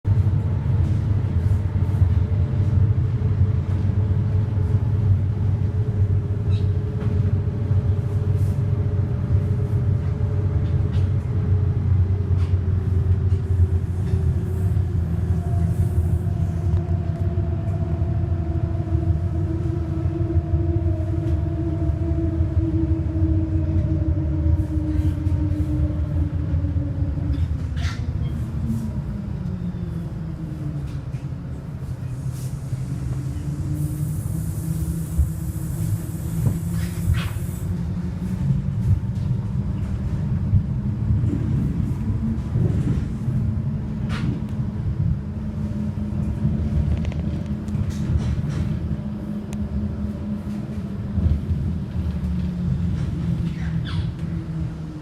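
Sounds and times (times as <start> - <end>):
bus engine rumble: 0.0 - 55.0.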